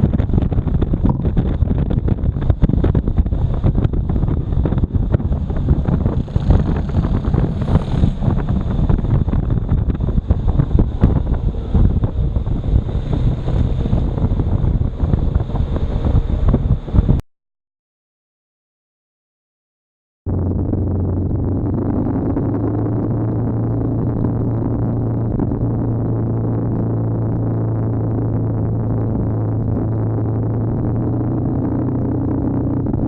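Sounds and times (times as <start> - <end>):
road noise: 0.0 - 17.2, 20.3 - 33.0
wind buffeting microphone: 0.0 - 17.2, 20.3 - 33.0.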